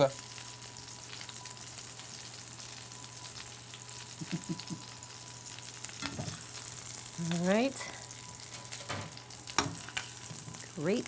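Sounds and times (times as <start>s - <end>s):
chicken frying in a pan: 0.0s - 11.0s.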